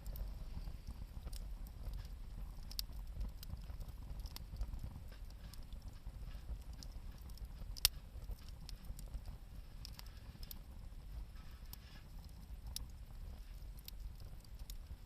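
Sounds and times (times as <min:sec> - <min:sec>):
campfire crackling: 0:00.0 - 0:15.0
low fire rumble: 0:00.0 - 0:15.0.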